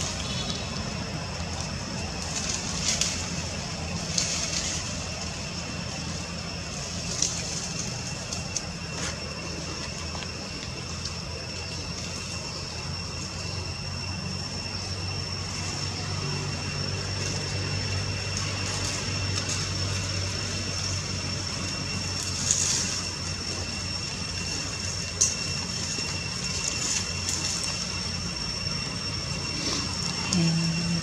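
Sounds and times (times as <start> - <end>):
high-pitched whine: 0.0 - 31.0
low engine-like hum: 0.0 - 31.0.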